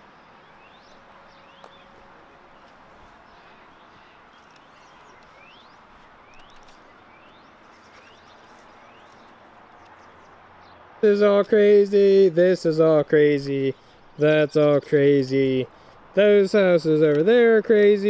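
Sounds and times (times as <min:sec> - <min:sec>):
bird chirping: 0:00.0 - 0:18.0
faint outdoor hiss: 0:00.0 - 0:18.0.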